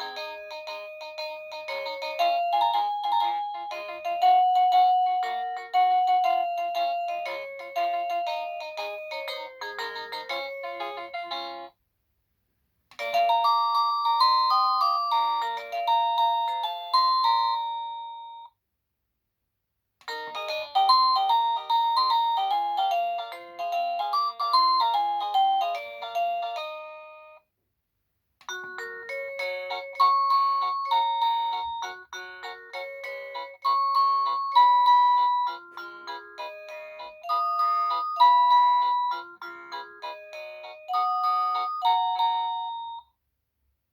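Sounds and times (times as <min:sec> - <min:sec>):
wireless doorbell chime tunes: 0:00.0 - 0:11.7, 0:13.0 - 0:18.5, 0:20.1 - 0:27.4, 0:28.5 - 0:43.1.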